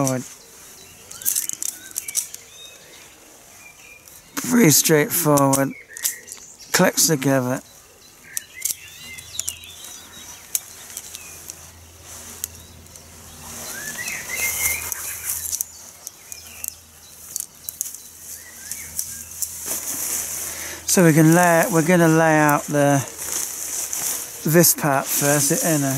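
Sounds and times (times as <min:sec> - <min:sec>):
birds chirping: 0:00.0 - 0:25.9
tent fabric rustling: 0:00.0 - 0:25.9
tent poles clicking and rattling: 0:00.0 - 0:25.9.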